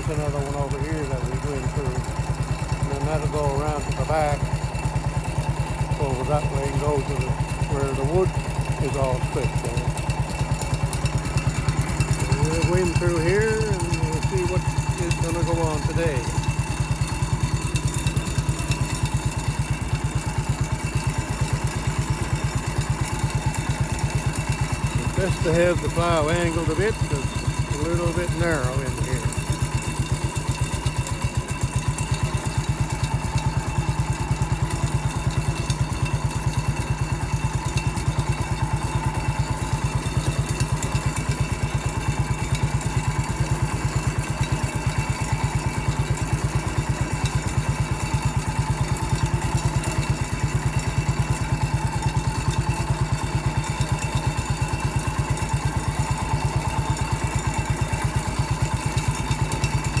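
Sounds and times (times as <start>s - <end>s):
garden tractor engine running: 0.0s - 60.0s.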